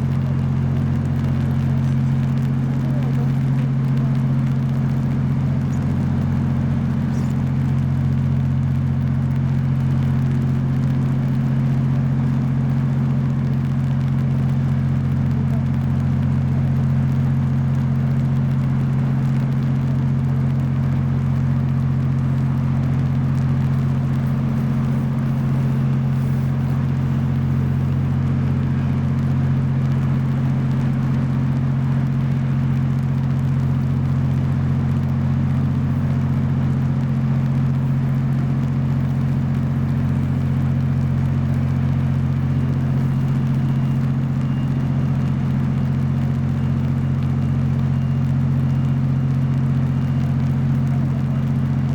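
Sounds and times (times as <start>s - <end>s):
low engine drone: 0.0s - 51.9s.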